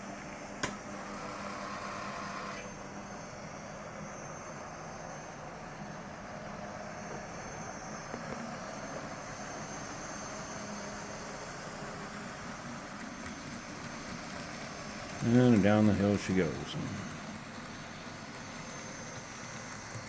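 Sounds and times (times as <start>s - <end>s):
model train whirring on track: 0.0s - 20.0s.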